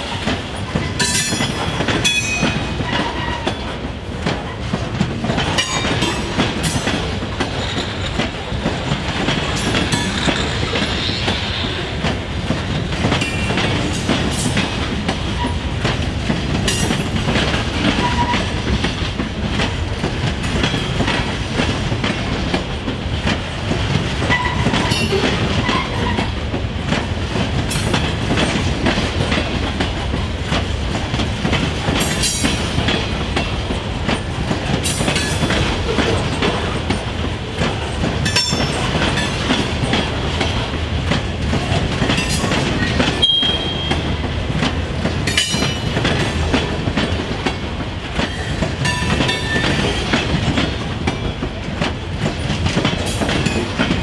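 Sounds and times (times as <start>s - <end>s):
train cars rumbling past: 0.0s - 54.0s
wheels clicking over rail joints: 0.0s - 54.0s.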